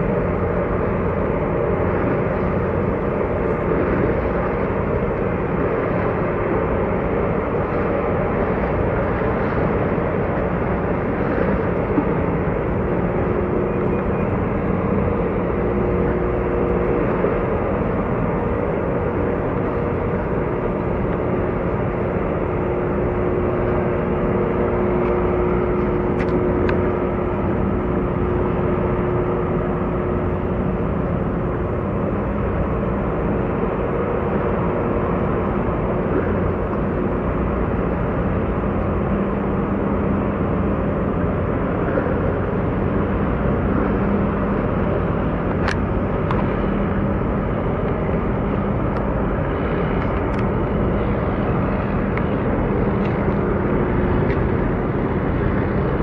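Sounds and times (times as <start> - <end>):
boat engine humming: 0.0 - 56.0
water rushing along hull: 0.0 - 56.0.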